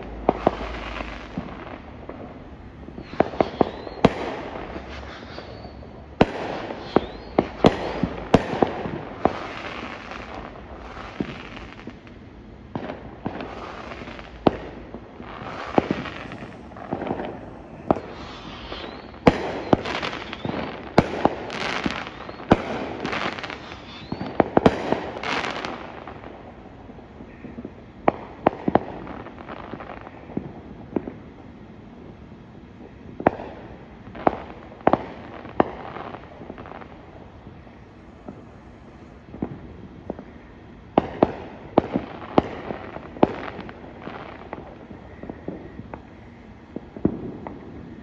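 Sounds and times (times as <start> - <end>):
fireworks bangs: 0.0 - 48.0
fireworks crackling: 0.0 - 48.0.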